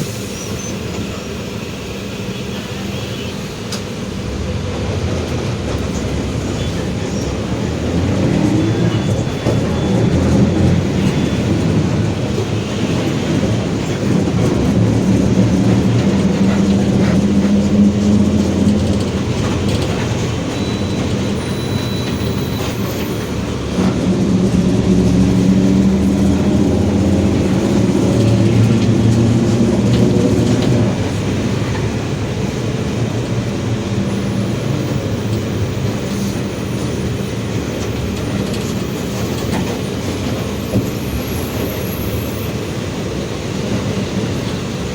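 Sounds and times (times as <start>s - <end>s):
bus diesel engine droning: 0.0s - 44.9s.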